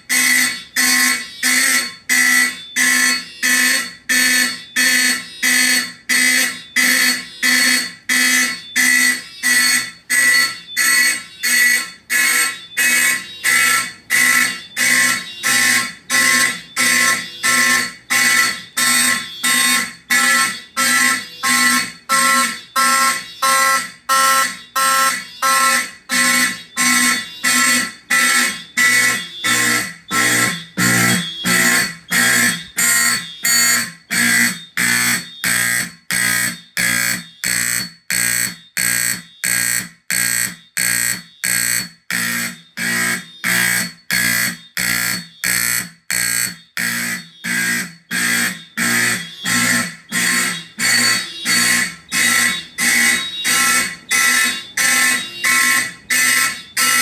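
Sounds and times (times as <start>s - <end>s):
fire alarm horns: 0.0s - 57.0s.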